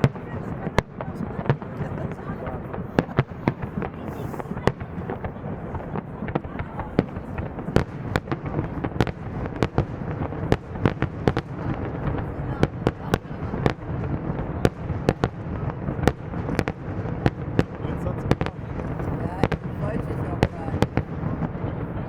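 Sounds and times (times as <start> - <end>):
fireworks sharp bangs: 0.0 - 22.0
low rumble of fireworks bursts: 0.0 - 22.0.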